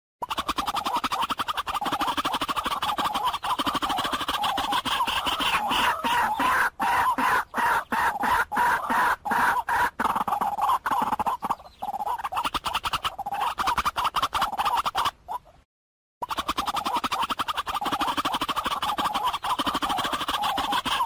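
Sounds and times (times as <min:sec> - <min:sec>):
waterhen calling: 0:00.3 - 0:15.6, 0:16.3 - 0:21.0.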